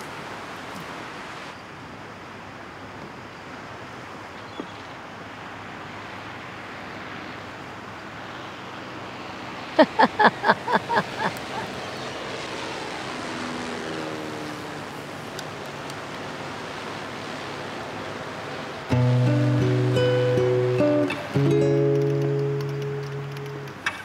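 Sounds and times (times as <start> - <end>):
sea surf: 0.0 - 24.0
wind: 0.0 - 24.0.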